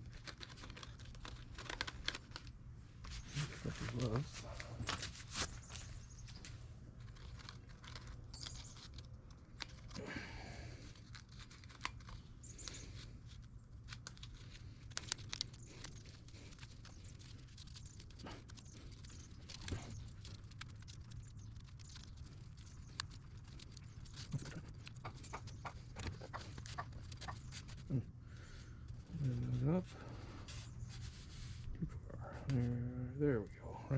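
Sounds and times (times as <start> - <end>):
steady low hum: 0.9 - 33.9.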